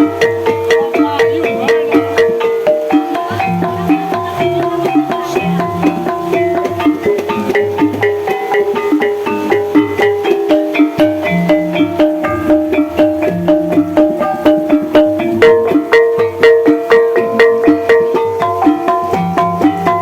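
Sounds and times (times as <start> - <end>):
gamelan music: 0.0 - 20.0.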